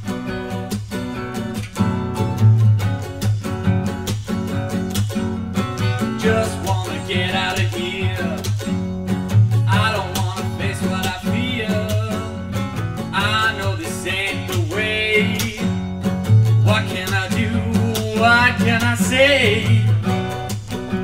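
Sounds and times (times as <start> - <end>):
guitar: 0.0 - 21.0
bass notes: 1.6 - 21.0.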